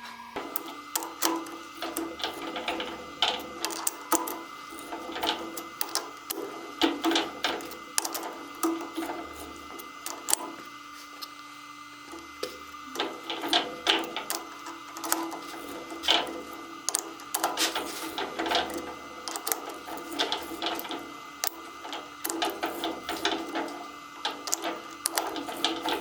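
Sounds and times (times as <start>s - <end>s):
machine tool humming: 0.0s - 26.0s
sharp clicks and light knocks: 0.4s - 11.4s, 12.1s - 26.0s.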